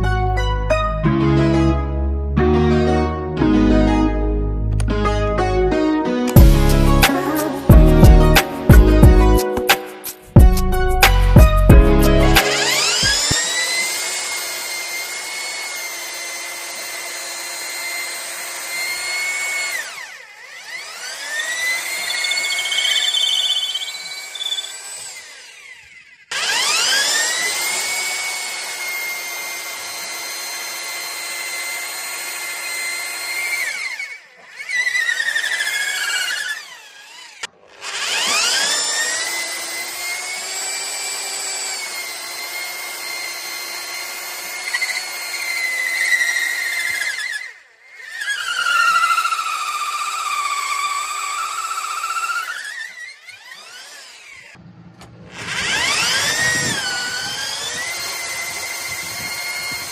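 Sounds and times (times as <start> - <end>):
rotary hammer motor whine: 11.8 - 59.9.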